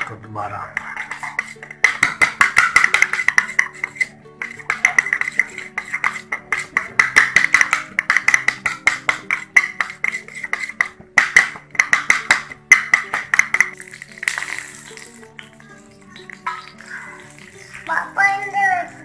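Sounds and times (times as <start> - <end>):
utensil clinking against metal bowl: 0.8 - 15.6, 16.2 - 17.9.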